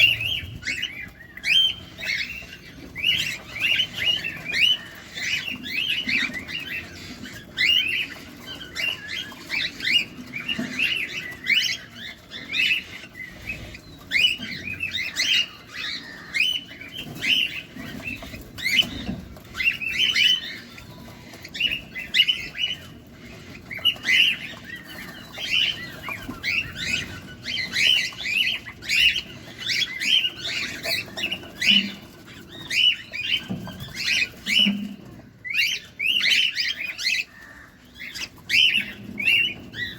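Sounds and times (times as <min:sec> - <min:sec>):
cockatiels chirping: 0:00.0 - 0:39.9.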